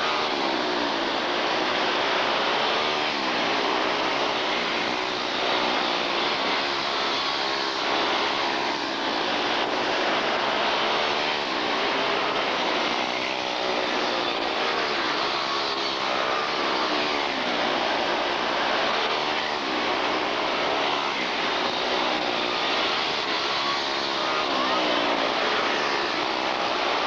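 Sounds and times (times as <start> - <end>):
small race car engines whining: 0.0 - 27.0.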